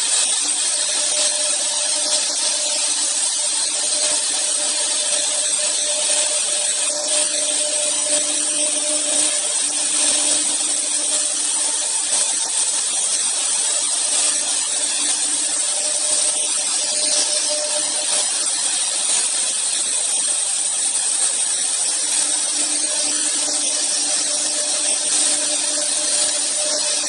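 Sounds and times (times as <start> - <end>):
machine whine: 0.0 - 27.0
router cutting wood hiss: 0.0 - 27.0.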